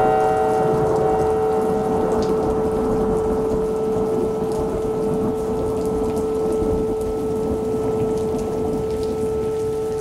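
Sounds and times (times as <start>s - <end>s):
rain patter: 0.0s - 10.0s
warning siren steady tone: 0.0s - 10.0s.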